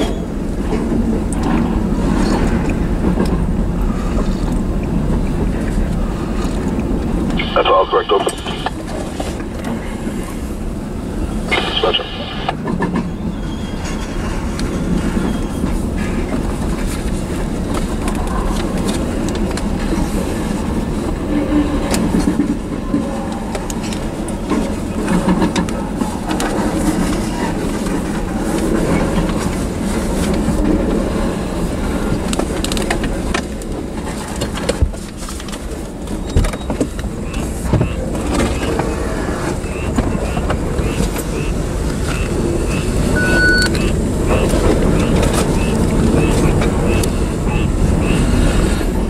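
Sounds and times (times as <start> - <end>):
steel wheels rumbling on rails: 0.0 - 49.0.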